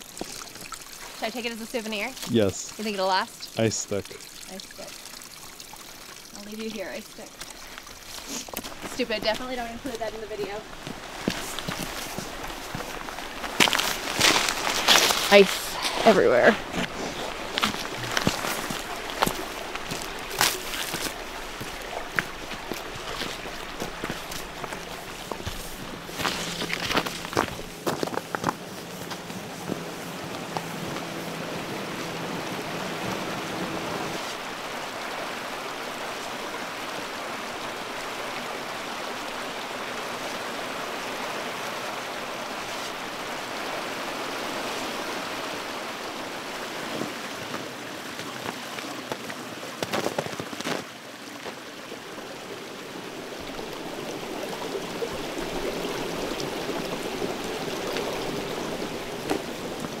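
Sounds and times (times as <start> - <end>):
water rushing over rocks: 0.0 - 60.0.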